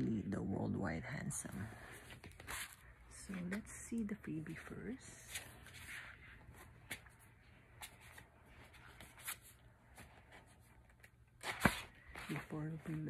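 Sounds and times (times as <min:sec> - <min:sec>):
photobook pages rustling: 0:01.8 - 0:13.0.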